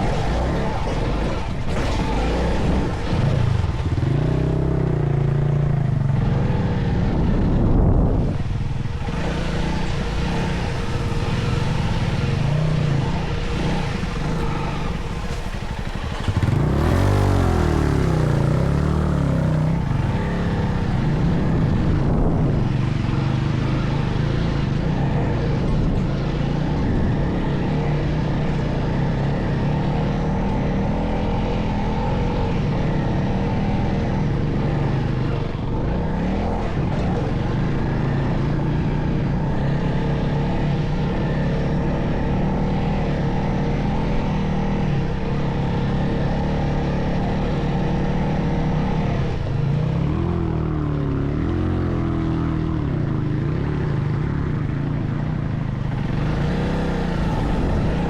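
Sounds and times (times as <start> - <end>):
vehicle engine running under load: 0.0 - 58.0.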